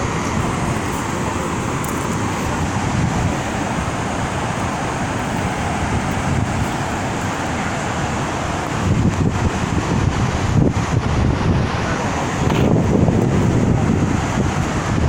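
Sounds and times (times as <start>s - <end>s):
water rushing through flood gates: 0.0s - 15.0s.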